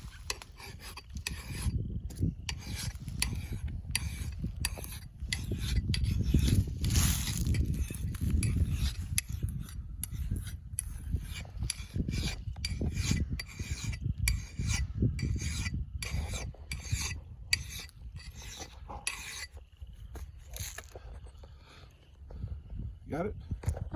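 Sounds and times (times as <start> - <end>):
file rasping on axe blade: 0.0 - 19.6.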